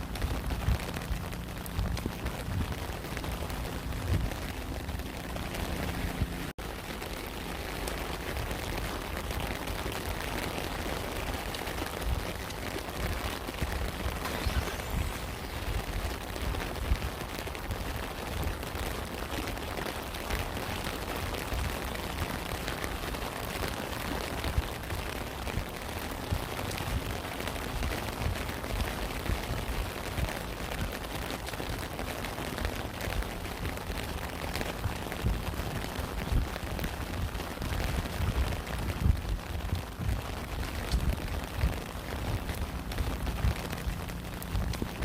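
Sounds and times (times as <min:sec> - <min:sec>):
low rumble: 0:00.0 - 0:08.6, 0:12.0 - 0:19.0, 0:21.2 - 0:45.0
raindrops ticking: 0:00.0 - 0:14.3, 0:14.9 - 0:45.0
steady rain: 0:00.0 - 0:45.0.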